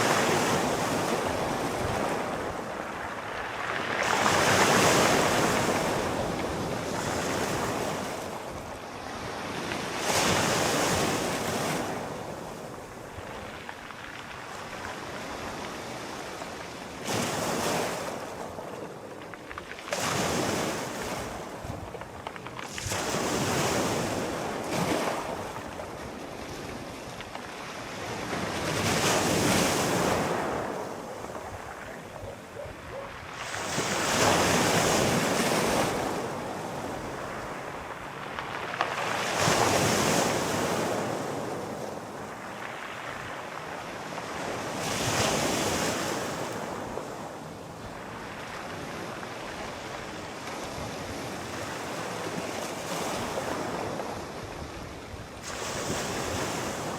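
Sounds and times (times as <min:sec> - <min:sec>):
sea waves breaking ashore: 0:00.0 - 0:56.9.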